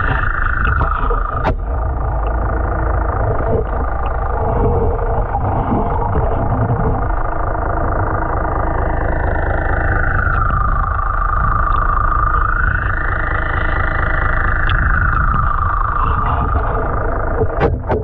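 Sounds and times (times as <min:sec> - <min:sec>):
propeller whine: 0:00.0 - 0:18.0
underwater boat engine rumble: 0:00.0 - 0:18.0.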